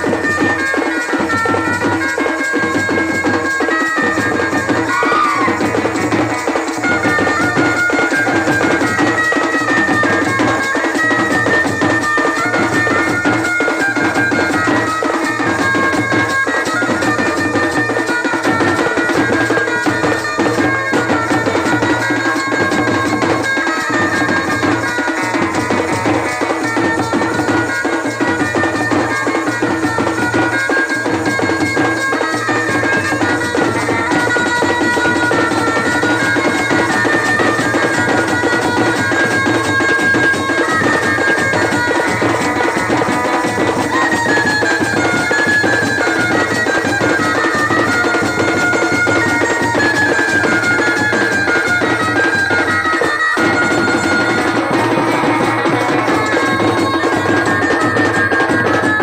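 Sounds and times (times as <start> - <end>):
repeating drum beat: 0.0 - 59.0.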